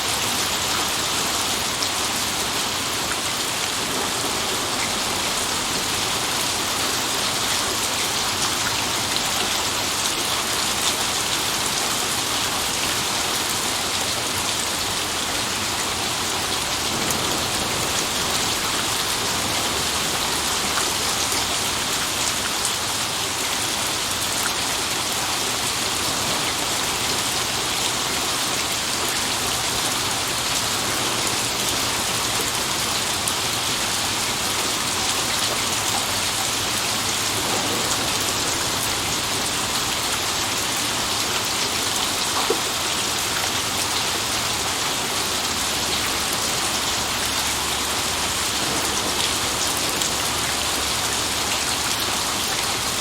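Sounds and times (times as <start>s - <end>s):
heavy rain splashing on hard surface: 0.0s - 53.0s.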